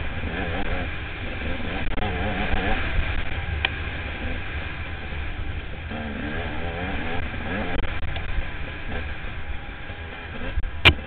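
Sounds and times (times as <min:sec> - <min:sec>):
dirt bike engine revving: 0:00.0 - 0:11.0
wind rumble on microphone: 0:00.0 - 0:11.0.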